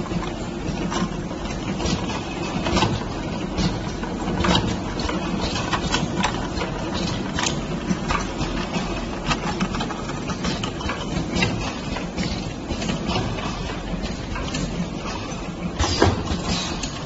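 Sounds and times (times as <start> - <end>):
conveyor motor hum: 0.0 - 17.0
cans clattering on conveyor: 0.8 - 17.0.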